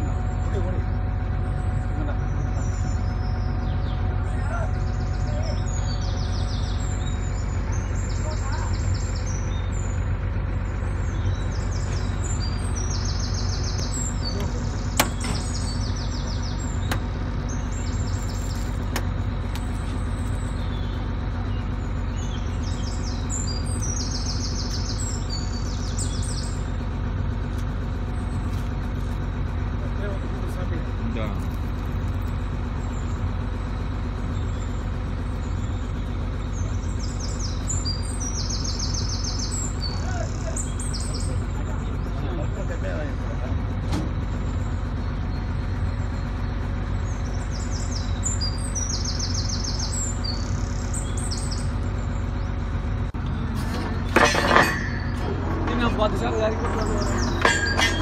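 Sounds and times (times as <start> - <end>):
birds chirping: 0.0 - 58.0
drilling rig rumbling: 0.0 - 58.0
machine hum: 0.0 - 58.0.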